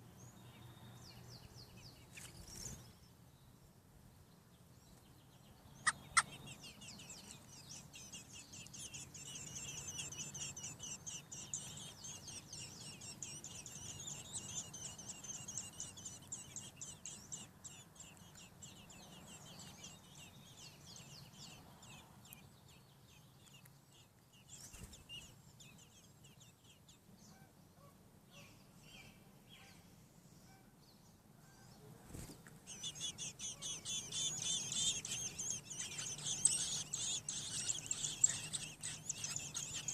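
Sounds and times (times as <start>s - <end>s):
nestlings begging peeps: 0.6s - 3.0s, 5.6s - 29.7s, 32.1s - 39.9s.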